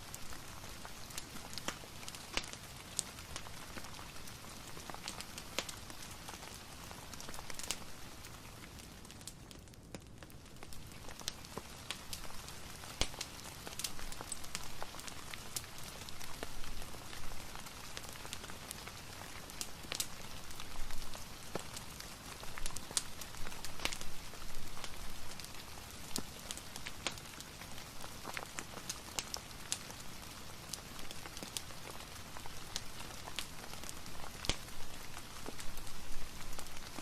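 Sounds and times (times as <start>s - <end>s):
fireplace crackling and popping: 0.0s - 37.0s
steady rain: 0.0s - 37.0s.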